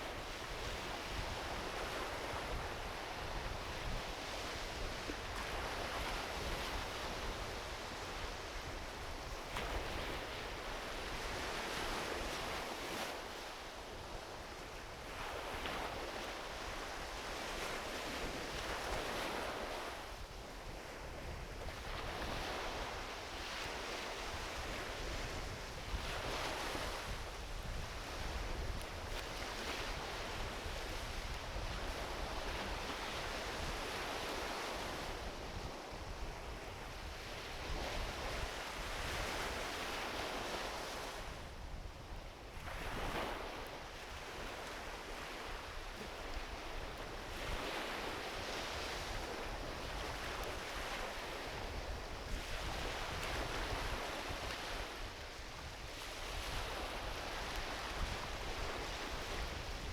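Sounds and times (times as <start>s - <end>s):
small waves washing onto beach: 0.0s - 59.9s
wind rumble on microphone: 0.0s - 59.9s.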